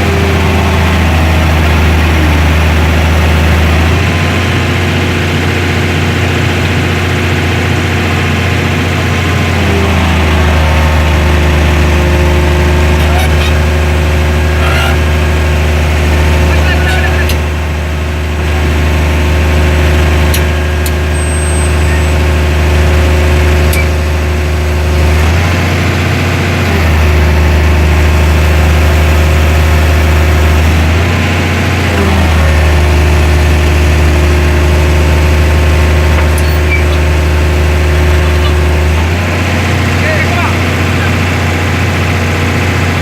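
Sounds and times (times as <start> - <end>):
heavy equipment engine running: 0.0 - 43.0.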